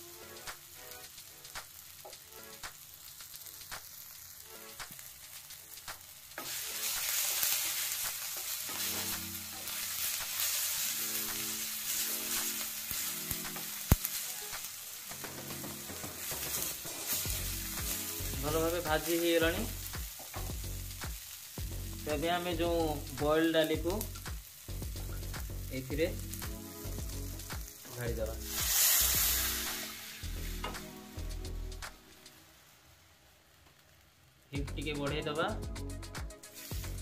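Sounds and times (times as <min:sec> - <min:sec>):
food sizzling in oil: 0:00.0 - 0:35.6, 0:36.3 - 0:37.0.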